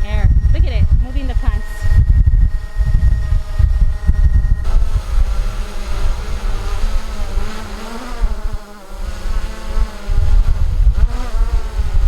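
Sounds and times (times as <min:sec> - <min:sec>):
drone propellers buzzing: 0:00.0 - 0:12.0
wind rumble on microphone: 0:00.0 - 0:12.0.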